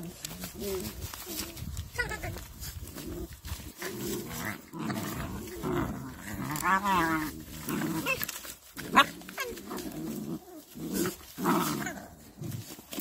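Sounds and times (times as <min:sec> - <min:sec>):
puppies growling: 0:00.0 - 0:13.0.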